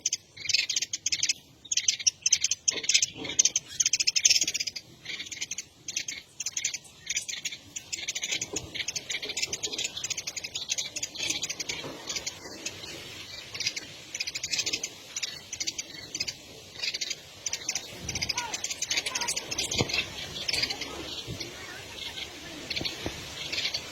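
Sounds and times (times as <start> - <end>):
high-pitched pulsing animal chirps: 0.0 - 23.9.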